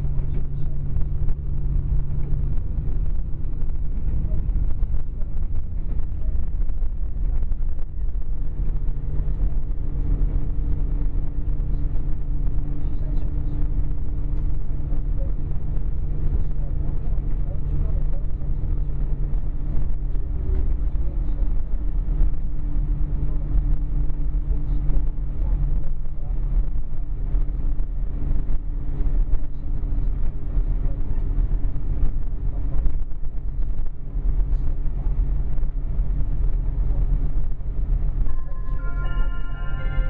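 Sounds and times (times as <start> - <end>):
diesel engine droning: 0.0 - 40.0
wheel and track rumble: 0.0 - 40.0.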